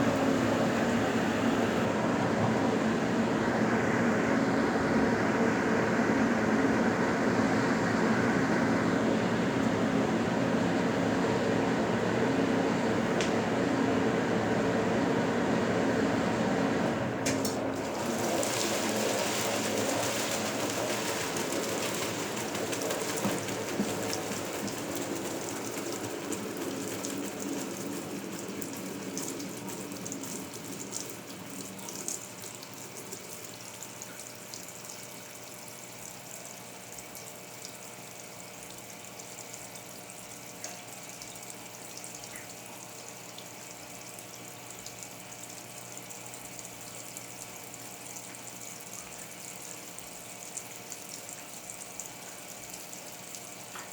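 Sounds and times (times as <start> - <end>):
water rushing in washing machine: 0.0 - 53.9.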